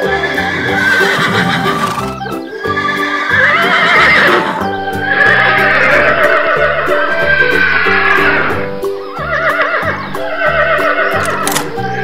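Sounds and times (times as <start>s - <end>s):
horse whinnying: 0.0s - 11.7s
background music with steady beat: 0.0s - 12.0s.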